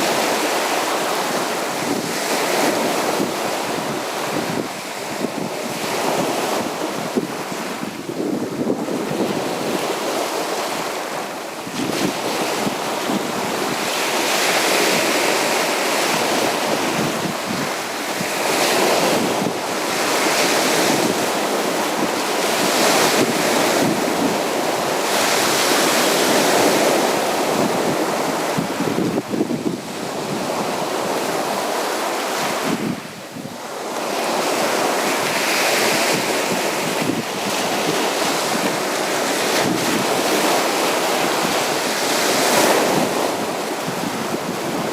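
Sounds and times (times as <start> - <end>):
sea waves breaking on beach: 0.0 - 44.9
wind buffeting microphone: 0.0 - 44.9.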